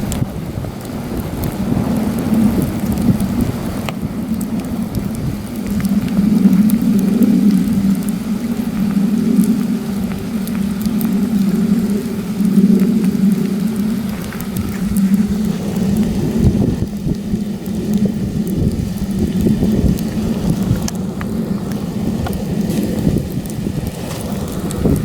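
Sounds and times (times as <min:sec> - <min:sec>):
campfire crackling: 0:00.0 - 0:25.0
wind gusting over microphone: 0:00.0 - 0:25.0.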